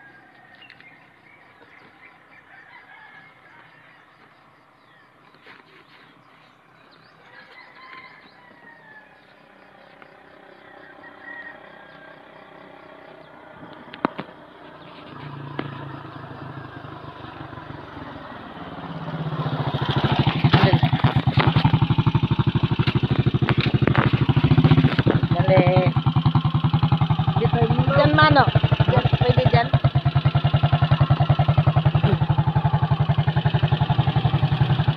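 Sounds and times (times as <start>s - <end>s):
motorcycle engine approaching: 0.0s - 34.9s.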